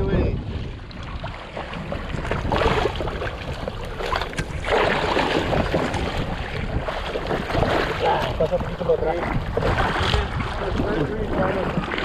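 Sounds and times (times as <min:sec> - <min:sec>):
water rushing and splashing: 0:00.0 - 0:12.0.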